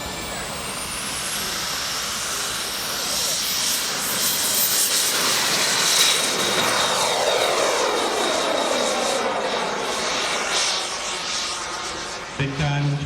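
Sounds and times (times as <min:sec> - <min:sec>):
model jet turbine whine: 0:00.0 - 0:13.0.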